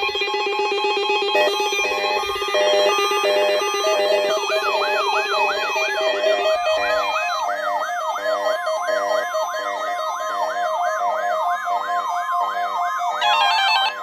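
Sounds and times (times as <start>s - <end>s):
electronic siren-like yelp alarm: 0.0s - 14.0s.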